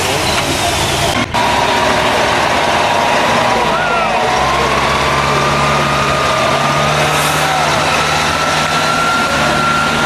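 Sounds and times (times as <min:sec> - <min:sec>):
diesel engine under heavy load: 0:00.0 - 0:10.0.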